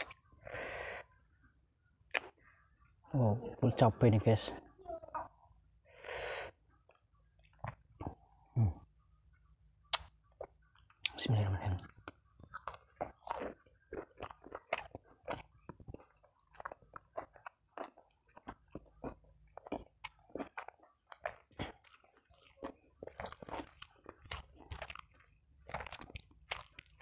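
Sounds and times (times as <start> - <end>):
person chewing with wet smacks: 1.1 - 3.0, 6.5 - 27.0.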